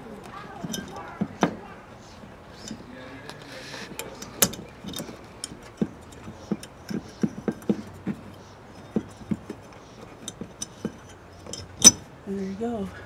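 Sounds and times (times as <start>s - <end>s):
light fixture base clicking: 0.0s - 12.1s.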